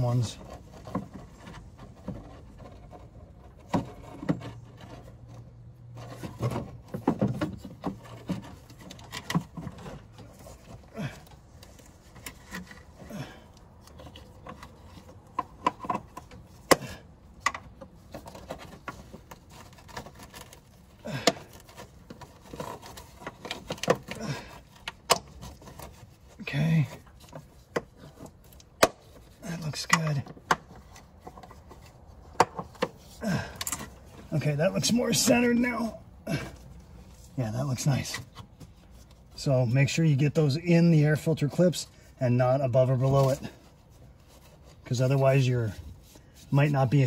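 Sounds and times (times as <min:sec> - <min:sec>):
gloved hands rubbing plastic: 0:07.6 - 0:47.0.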